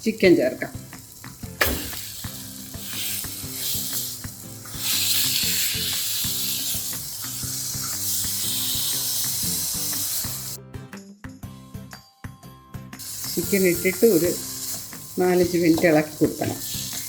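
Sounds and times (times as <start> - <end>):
chicken sizzling in hot oil: 0.1 - 10.6, 13.0 - 17.0.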